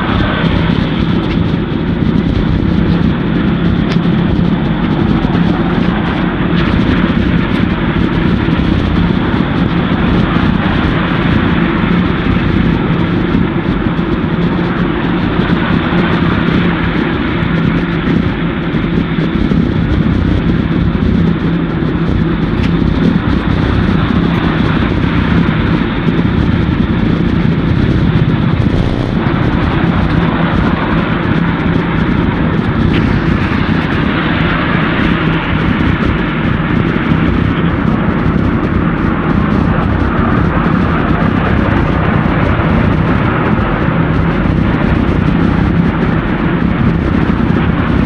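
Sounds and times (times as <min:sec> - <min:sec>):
wind and riding noise rumble: 0:00.0 - 0:48.0.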